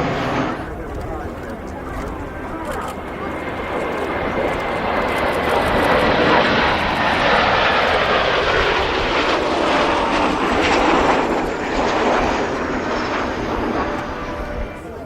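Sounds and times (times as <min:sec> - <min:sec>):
jet engines flying past: 0:00.0 - 0:15.0.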